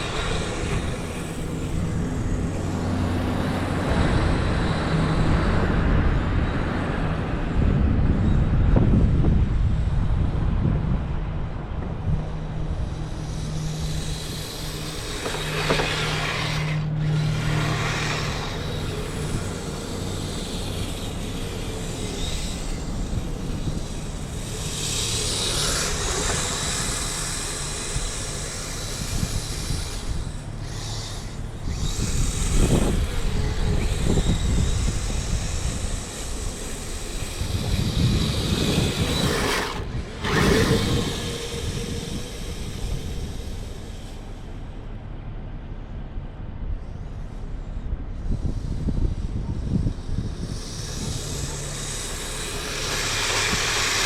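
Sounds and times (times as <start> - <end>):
electric motors and tracks running: 0.0 - 54.0.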